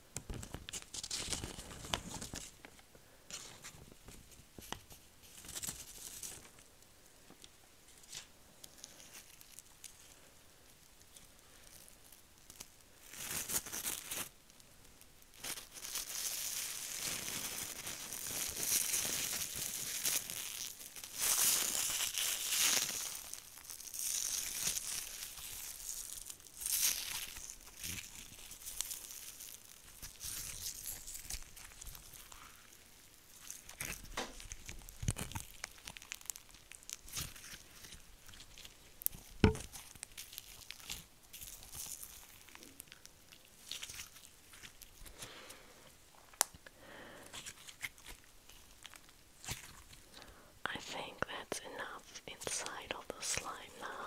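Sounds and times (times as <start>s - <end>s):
gold leaf crinkling and tearing: 0.2s - 6.7s, 7.4s - 45.6s, 46.2s - 50.3s.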